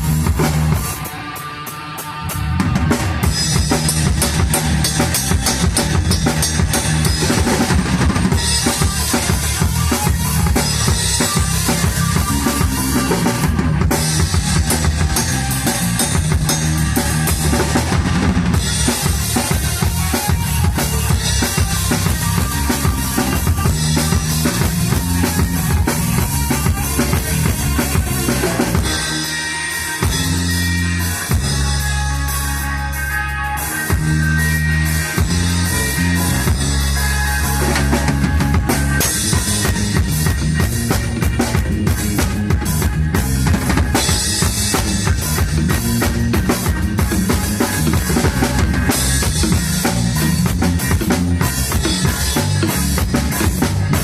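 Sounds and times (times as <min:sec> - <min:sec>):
drum kit kick and snare: 0:00.0 - 0:01.1, 0:02.6 - 0:31.9, 0:33.8 - 0:54.0
electric bass line: 0:00.0 - 0:54.0
rock band playing: 0:00.0 - 0:54.0.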